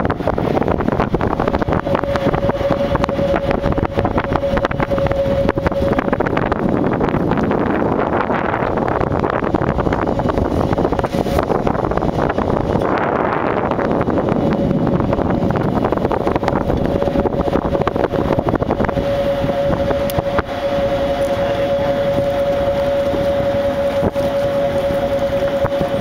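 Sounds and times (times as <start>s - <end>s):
boat engine running: 0.0s - 26.0s
steady hum: 0.0s - 26.0s
wind on microphone: 0.0s - 26.0s.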